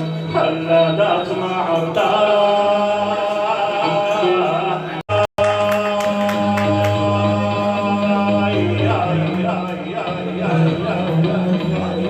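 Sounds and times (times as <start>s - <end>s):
voices singing long chant: 1.3s - 12.0s.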